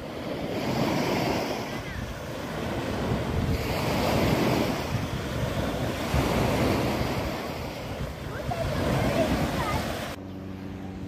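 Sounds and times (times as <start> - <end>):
small waves lapping on shore: 0.0 - 11.0
wind on microphone: 0.0 - 11.0.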